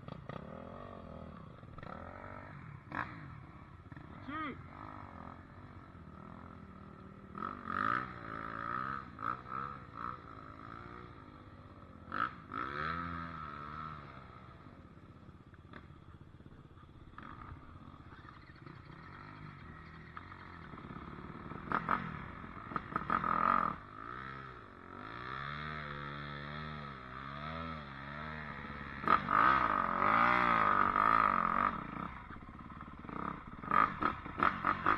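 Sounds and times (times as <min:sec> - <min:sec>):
dirt bike engine revving: 0:00.0 - 0:14.8, 0:17.1 - 0:34.9.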